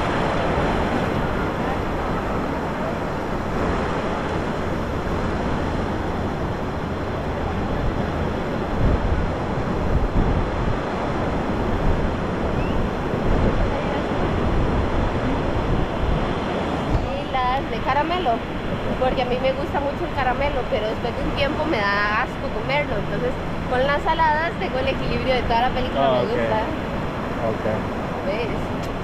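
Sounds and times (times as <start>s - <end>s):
ocean surf washing onto beach: 0.0s - 29.0s
wind buffeting microphone: 0.0s - 29.0s.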